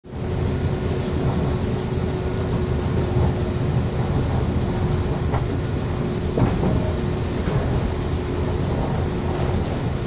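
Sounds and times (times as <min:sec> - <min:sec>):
train wheels rumbling on rails: 0:00.0 - 0:10.0
constant hum: 0:00.1 - 0:10.0.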